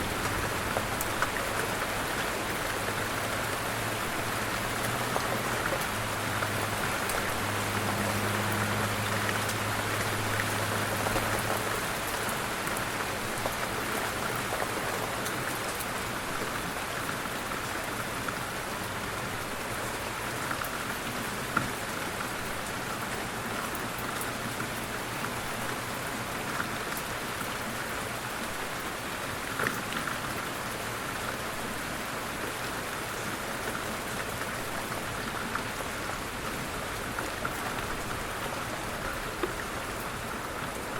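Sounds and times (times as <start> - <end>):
raindrops ticking: 0.0 - 40.9.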